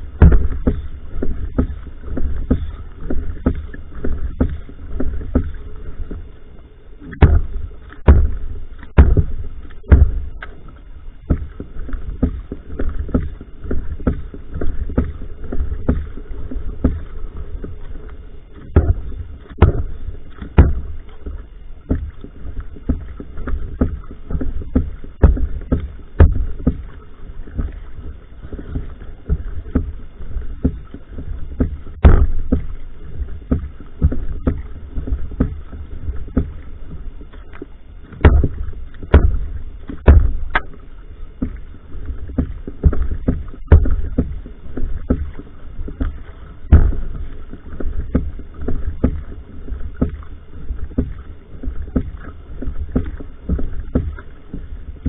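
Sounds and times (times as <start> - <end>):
low rumble of water and wind: 0.0 - 55.0
paddle strokes splashing: 0.0 - 55.0.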